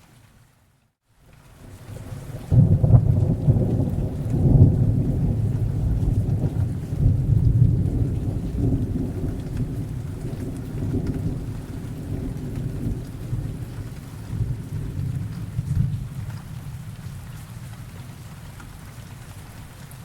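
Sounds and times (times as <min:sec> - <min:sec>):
steady rain: 0:00.0 - 0:20.0
thunder rumbling: 0:01.9 - 0:18.9.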